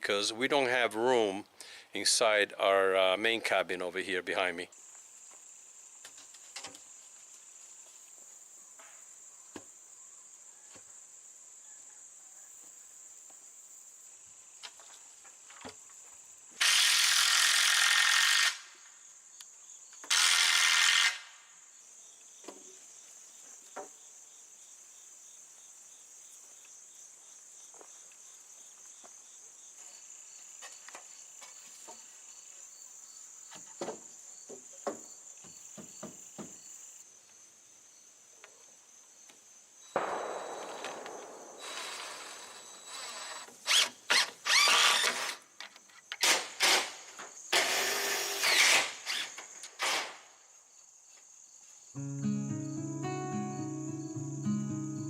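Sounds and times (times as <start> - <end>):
crickets trilling: 4.0 - 55.0.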